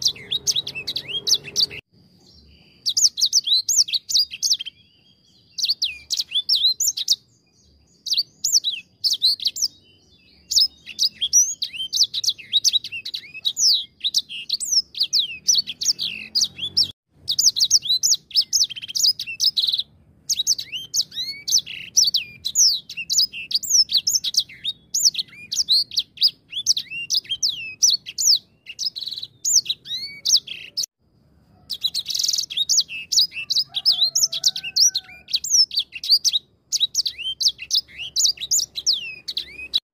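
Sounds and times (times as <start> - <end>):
finch singing chattering song: 0.0 - 30.9, 31.7 - 39.8.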